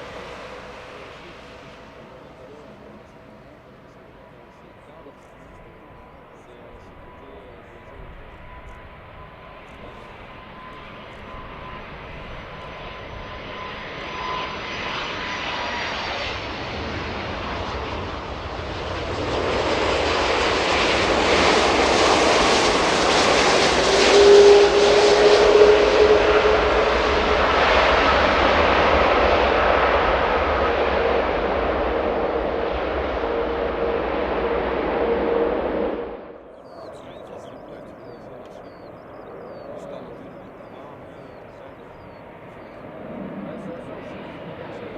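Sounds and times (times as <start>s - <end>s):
jet engines of passing airliner: 0.0s - 44.9s.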